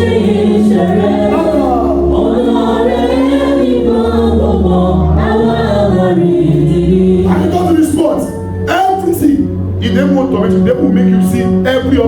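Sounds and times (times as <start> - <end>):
congregation singing a hymn: 0.0 - 12.0.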